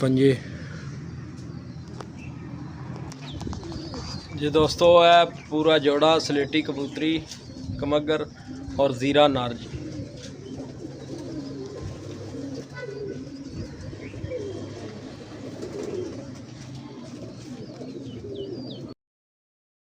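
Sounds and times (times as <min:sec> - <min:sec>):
pigeons cooing: 0:00.2 - 0:19.0.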